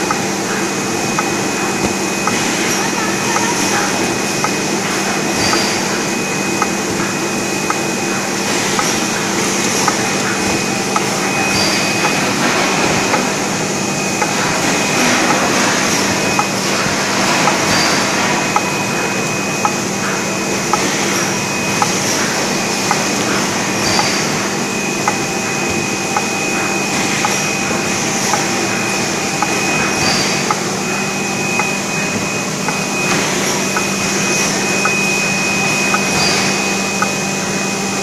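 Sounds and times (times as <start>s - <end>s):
labelling machine hum: 0.0s - 38.0s.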